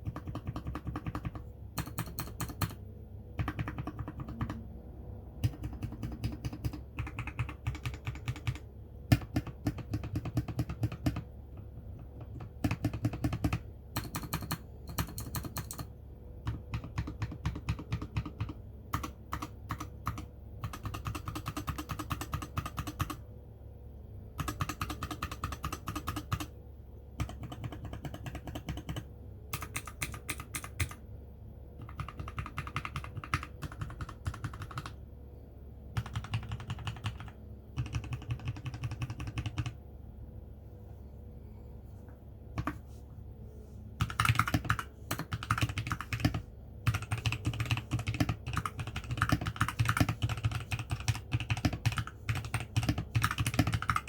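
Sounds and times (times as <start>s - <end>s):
mechanical keyboard typing clicks: 0.0s - 2.8s, 3.4s - 4.7s, 5.4s - 23.2s, 24.4s - 26.5s, 27.2s - 31.0s, 31.8s - 35.0s, 35.9s - 39.8s, 42.6s - 42.8s, 44.0s - 54.0s.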